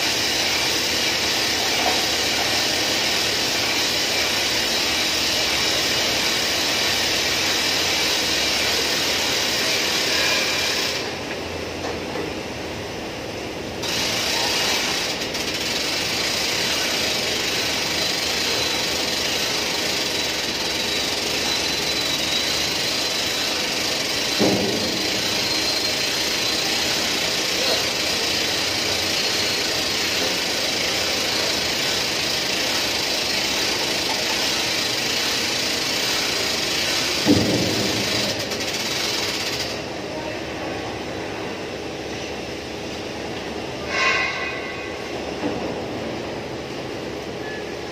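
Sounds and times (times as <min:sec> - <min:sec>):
winch running with high whine: 0:00.0 - 0:47.9.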